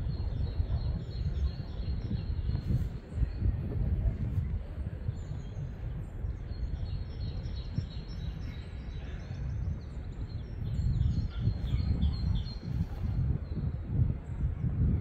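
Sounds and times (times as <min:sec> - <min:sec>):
low uneven rumble: 0:00.0 - 0:15.0
small birds chirping: 0:00.0 - 0:15.0.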